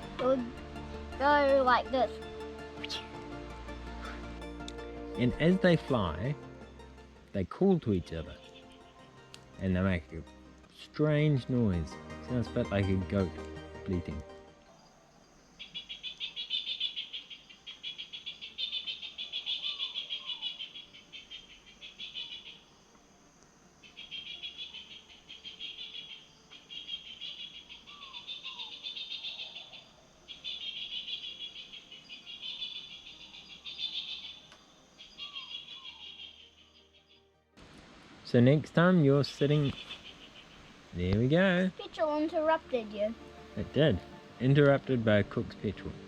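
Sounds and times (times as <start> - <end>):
insects trilling: 0.0 - 11.8, 14.6 - 37.2, 38.4 - 45.2.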